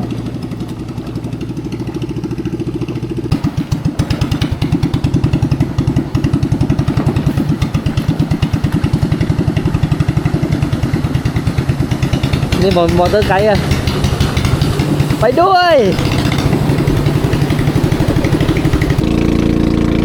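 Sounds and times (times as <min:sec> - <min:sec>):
boat engine thumping: 0:00.0 - 0:20.0.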